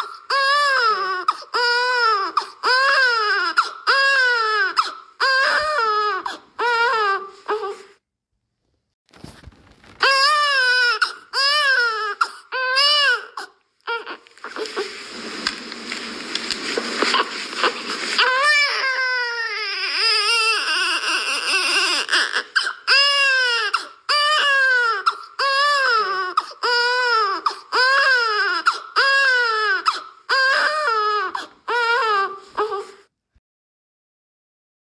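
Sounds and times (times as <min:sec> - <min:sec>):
infant crying: 0:00.0 - 0:08.0, 0:10.0 - 0:14.9, 0:17.1 - 0:33.1
infant fussing: 0:00.0 - 0:08.0, 0:10.0 - 0:15.1, 0:16.6 - 0:33.0.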